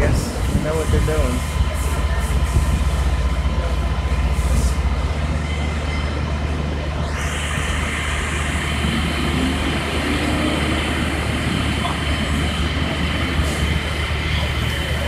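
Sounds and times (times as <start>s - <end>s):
fire engine running: 0.0s - 15.0s.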